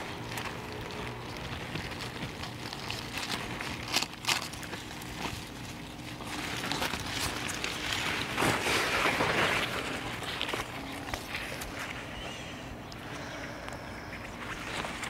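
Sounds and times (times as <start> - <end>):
hands digging in soil: 0.0 - 12.1
steady low hum: 0.0 - 15.0.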